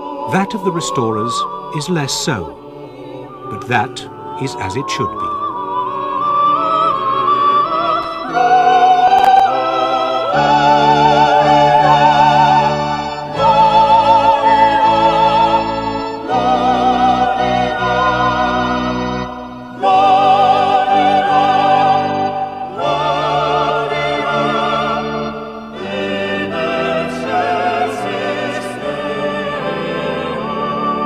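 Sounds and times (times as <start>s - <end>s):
sacred choral singing with vibrato: 0.0s - 31.0s.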